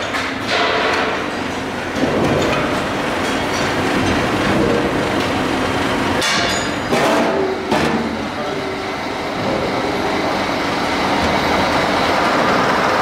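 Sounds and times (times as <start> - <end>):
machinery running loudly: 0.0 - 13.0.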